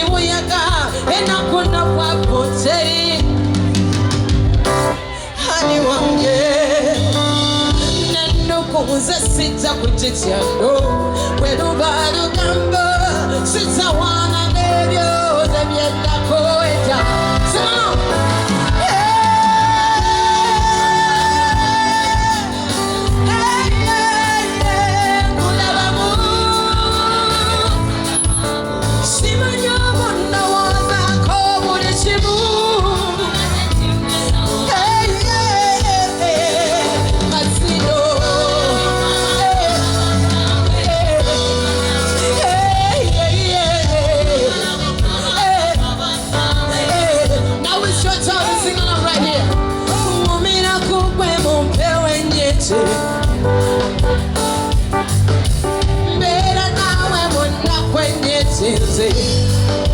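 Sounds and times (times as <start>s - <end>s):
singer over amplified band: 0.0s - 59.9s.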